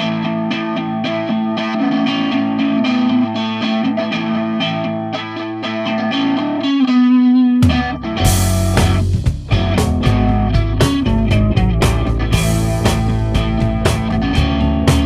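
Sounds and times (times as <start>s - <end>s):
guitar picking single notes: 0.0s - 15.0s.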